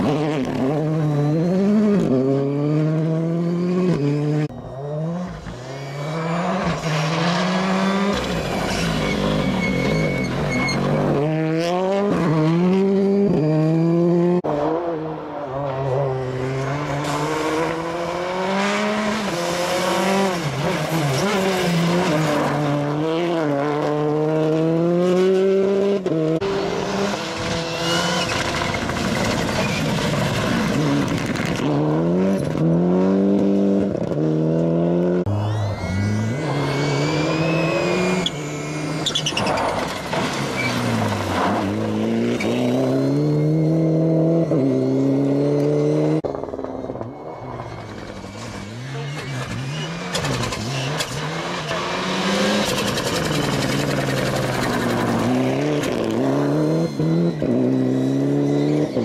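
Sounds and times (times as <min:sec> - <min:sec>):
rally car engines at full throttle: 0:00.0 - 0:59.0.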